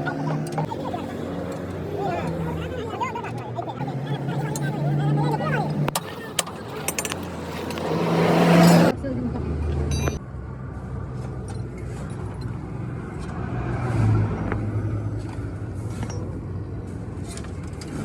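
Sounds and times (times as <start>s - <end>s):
motor vehicle rumble: 0.0s - 18.0s.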